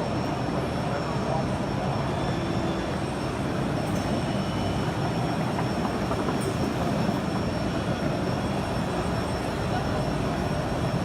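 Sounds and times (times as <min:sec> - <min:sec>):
running machinery: 0:00.0 - 0:11.0.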